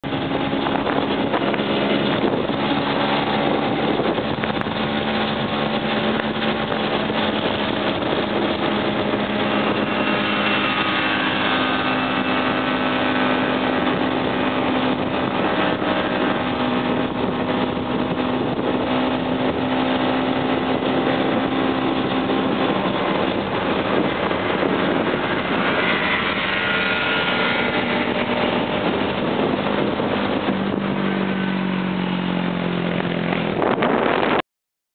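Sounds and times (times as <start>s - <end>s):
two-stroke scooter engine: 0.0s - 34.1s.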